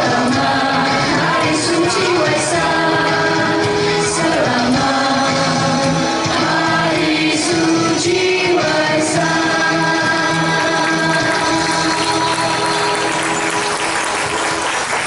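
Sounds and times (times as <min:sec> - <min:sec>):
mixed choir singing in harmony: 0:00.0 - 0:13.7.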